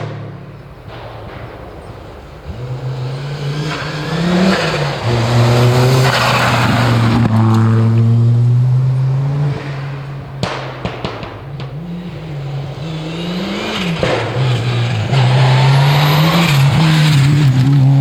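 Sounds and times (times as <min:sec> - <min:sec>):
rally car engine at full power: 0:00.0 - 0:18.0.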